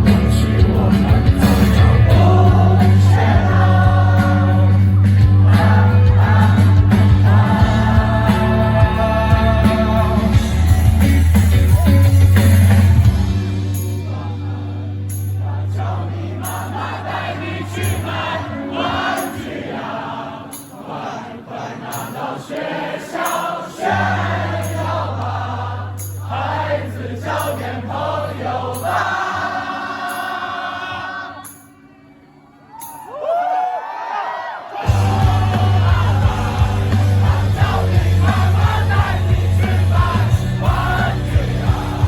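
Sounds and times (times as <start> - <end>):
many voices singing: 0.0 - 11.9, 12.6 - 31.9, 34.2 - 42.0.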